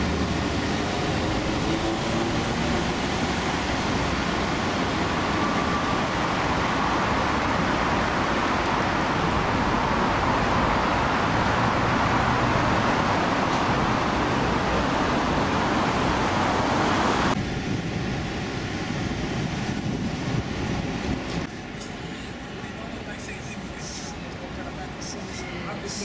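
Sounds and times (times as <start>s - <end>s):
road traffic roar: 0.0s - 26.0s.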